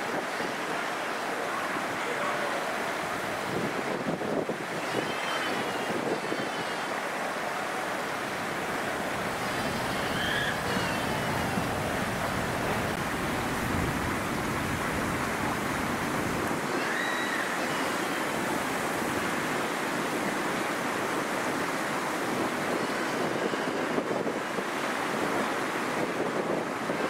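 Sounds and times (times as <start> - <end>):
gusty wind buffeting microphone: 2.9 - 27.0.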